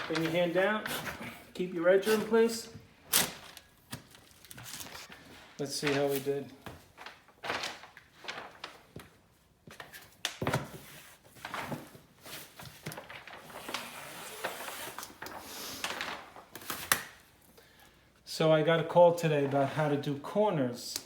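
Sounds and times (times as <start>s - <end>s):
wallpaper and tape rustling: 0.0s - 17.4s.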